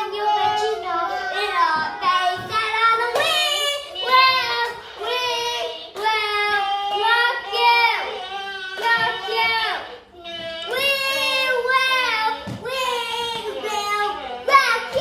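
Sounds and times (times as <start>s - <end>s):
young child singing: 0.0s - 15.0s.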